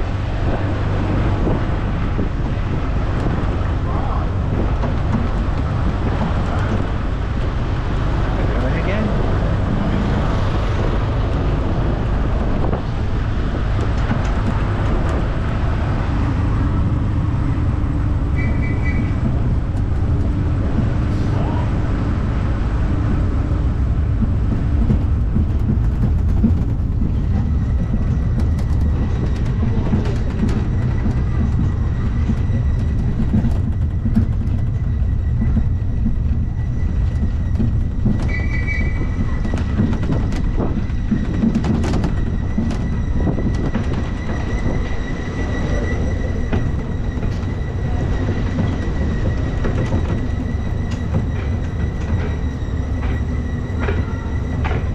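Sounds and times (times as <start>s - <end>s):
train rumbling on track: 0.0s - 54.9s.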